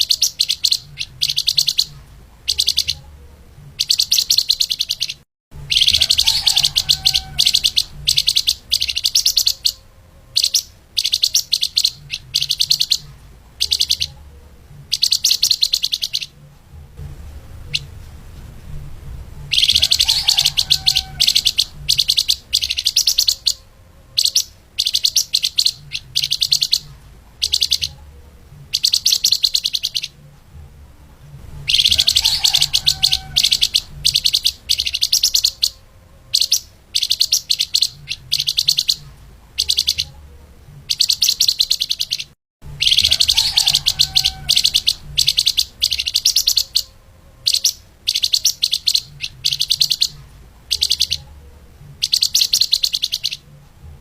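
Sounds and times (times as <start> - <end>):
faint low hum: 0.0 - 54.0
songbird singing rapid chirps: 0.0 - 54.0.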